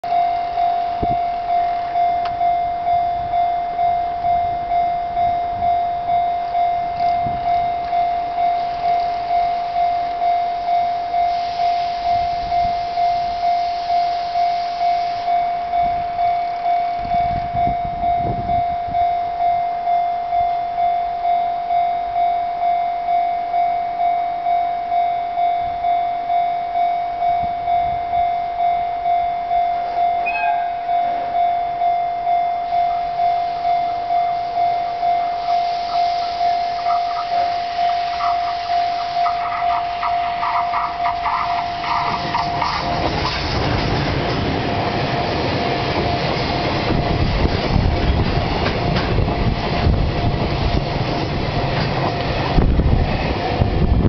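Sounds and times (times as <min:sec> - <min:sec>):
level crossing warning bell: 0:00.0 - 0:53.2.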